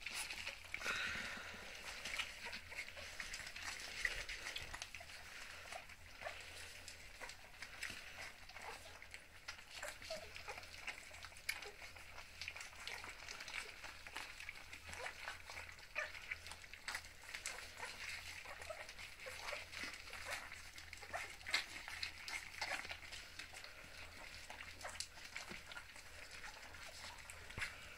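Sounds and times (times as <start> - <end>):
puppies lapping and smacking food: 0.0 - 27.9.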